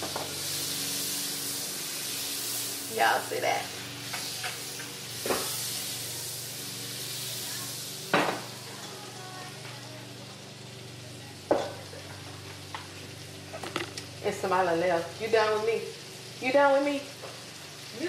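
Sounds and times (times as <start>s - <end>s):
butter sizzling in pot: 0.0s - 18.0s.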